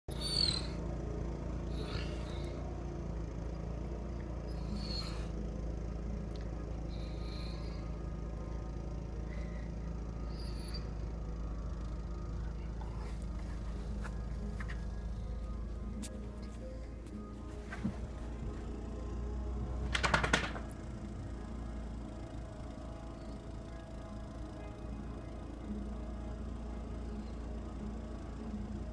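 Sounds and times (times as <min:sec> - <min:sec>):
muffled tractor engine running: 0:00.0 - 0:28.9.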